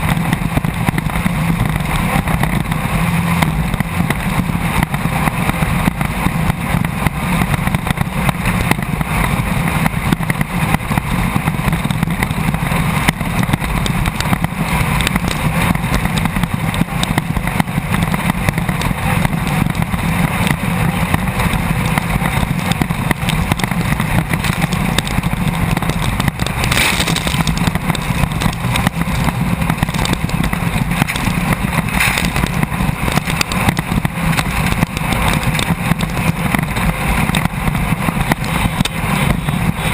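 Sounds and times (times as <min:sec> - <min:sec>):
chassis rattle: 0:00.0 - 0:39.9
race buggy engine running hard: 0:00.0 - 0:39.9
wind noise: 0:00.0 - 0:39.9.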